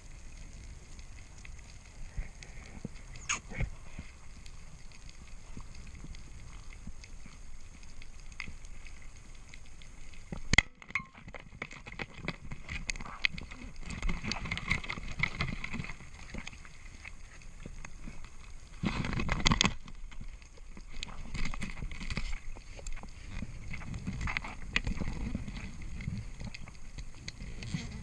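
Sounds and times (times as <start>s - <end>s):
underwater crackling and clicks: 0.0s - 28.0s.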